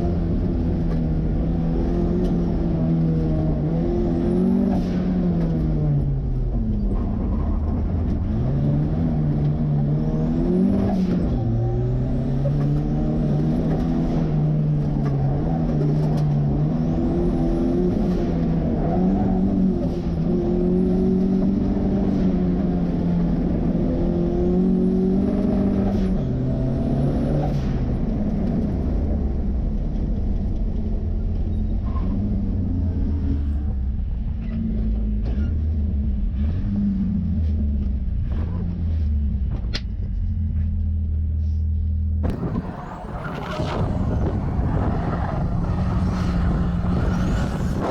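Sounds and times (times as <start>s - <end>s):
turbocharged car engine accelerating: 0.0s - 40.8s, 42.2s - 47.9s.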